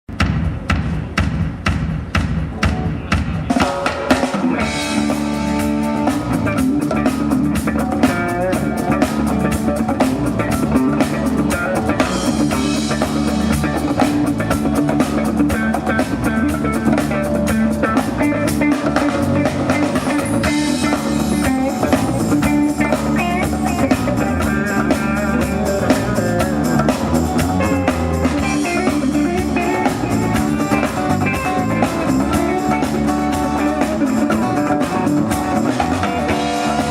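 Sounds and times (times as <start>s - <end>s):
drum kit fast beat: 0.1s - 36.9s
folk band playing: 2.6s - 36.9s.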